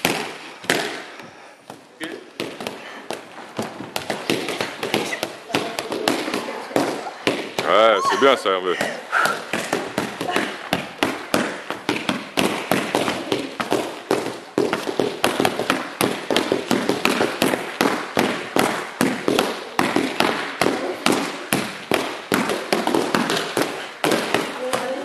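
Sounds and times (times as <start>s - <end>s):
hands slapping training pads: 0.0s - 25.0s.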